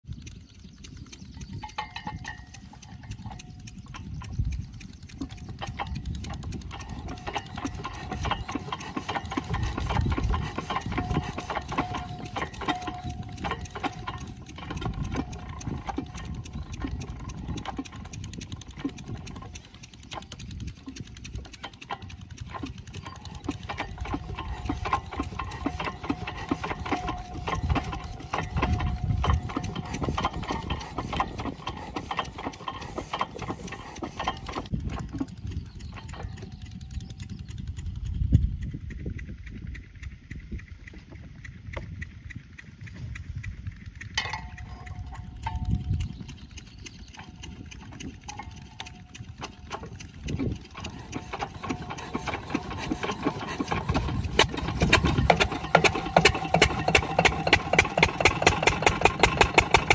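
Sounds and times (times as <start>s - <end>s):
diesel engine knocking: 0.0s - 59.9s.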